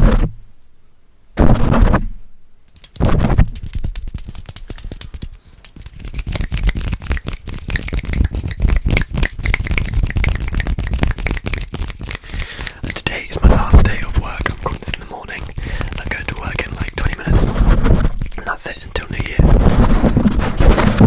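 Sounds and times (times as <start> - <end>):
scratching and tapping on microphone: 2.7 - 21.0.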